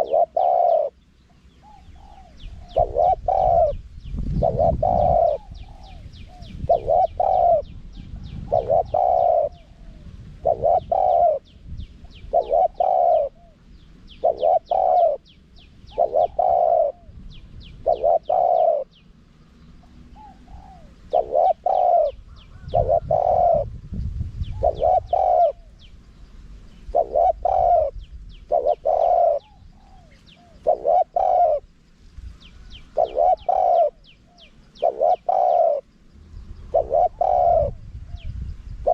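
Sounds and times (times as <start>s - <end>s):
dove cooing: 0.0s - 19.0s, 19.7s - 23.8s, 24.4s - 25.9s, 26.9s - 31.8s, 32.6s - 35.9s, 36.7s - 38.9s
faint high bird chirps: 0.0s - 38.9s.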